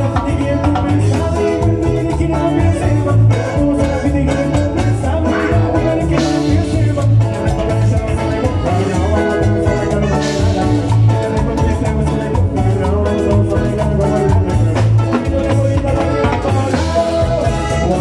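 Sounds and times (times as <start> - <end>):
latin dance band playing: 0.0 - 18.0.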